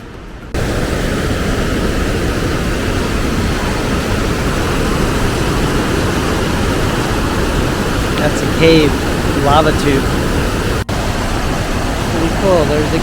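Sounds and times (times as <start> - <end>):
whitewater rushing through gorge: 0.5 - 13.0.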